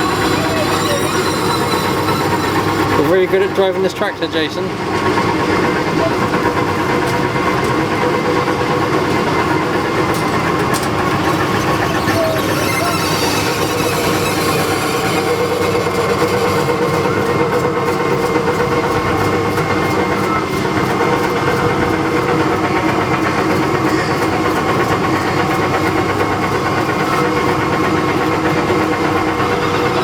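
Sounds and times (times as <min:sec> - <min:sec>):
ride-on tractor droning: 0:00.0 - 0:30.0.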